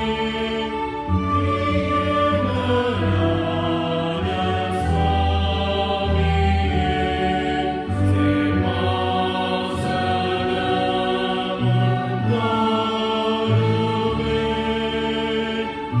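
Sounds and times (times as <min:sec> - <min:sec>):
low steady accompaniment: 0:00.0 - 0:16.0
voices singing a hymn: 0:00.0 - 0:16.0.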